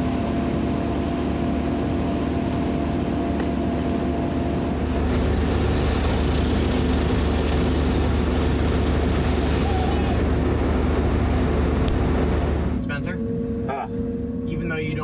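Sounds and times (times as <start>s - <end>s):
heavy engine droning: 0.0s - 15.0s.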